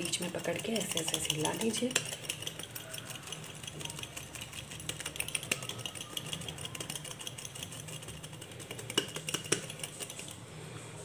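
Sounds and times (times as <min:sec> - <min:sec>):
steel bowls clicking and rattling: 0:00.0 - 0:10.4.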